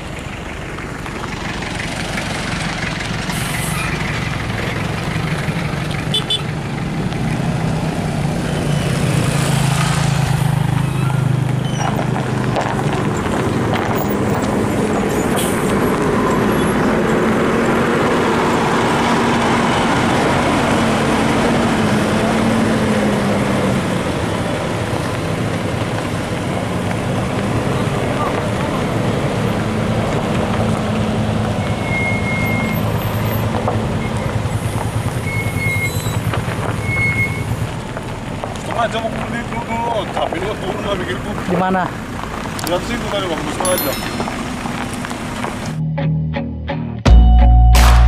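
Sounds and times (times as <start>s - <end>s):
heavy vehicle engine under load: 0.0s - 45.8s.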